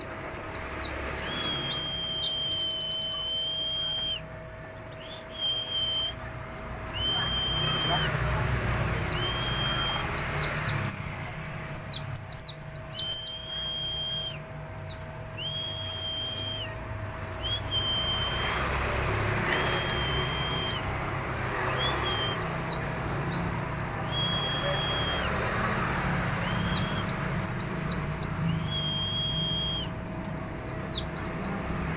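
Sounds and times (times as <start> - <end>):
bird rapid falling chirps: 0.0 - 31.6
steady whistled bird note: 0.4 - 18.8, 19.6 - 21.1, 21.8 - 31.2.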